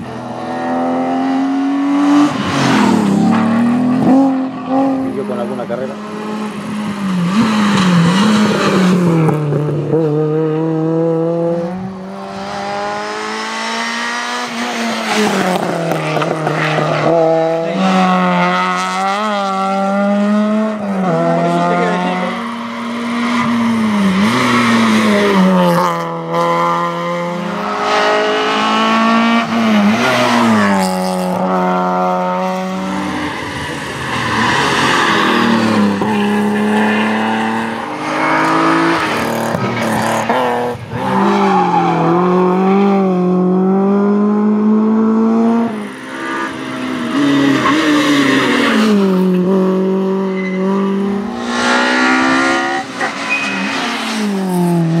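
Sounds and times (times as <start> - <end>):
rally cars revving past: 0.0 - 55.0.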